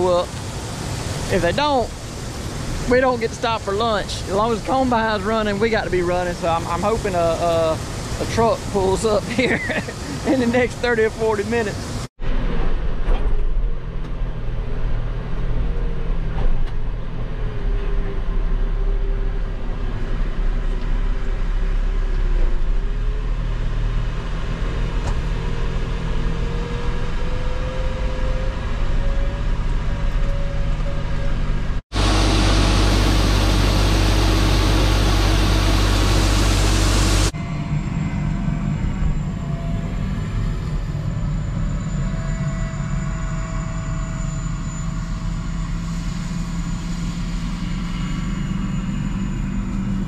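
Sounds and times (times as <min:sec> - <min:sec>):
dense steady machinery noise: 0:00.0 - 0:50.0
heavy vehicle engine running: 0:00.0 - 0:50.0.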